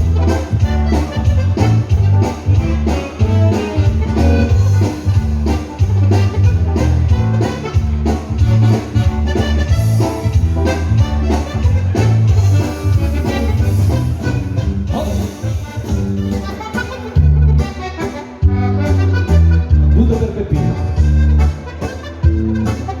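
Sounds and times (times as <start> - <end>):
upbeat dance-band music: 0.0 - 23.0.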